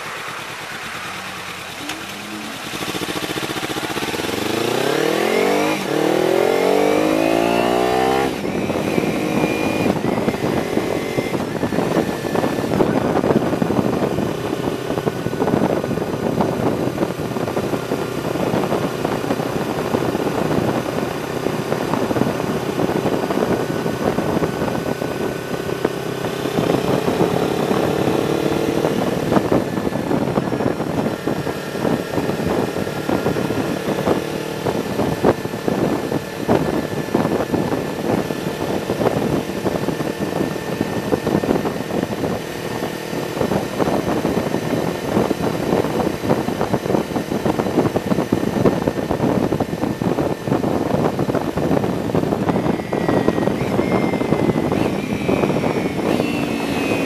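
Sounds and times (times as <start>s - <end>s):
motorcycle engine revving: 0.0s - 57.0s
wind rushing on camera: 0.0s - 57.0s.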